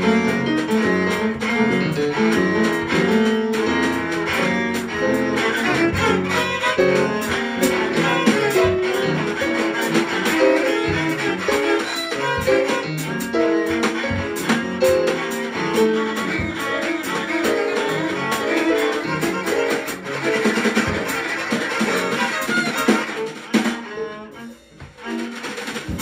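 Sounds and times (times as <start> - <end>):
drum kit with cymbal hits: 0.0 - 26.0.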